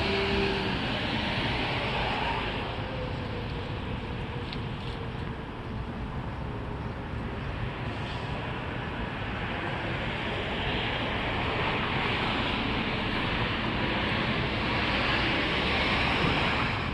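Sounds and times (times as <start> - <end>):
outdoor rushing noise: 0.0 - 16.9.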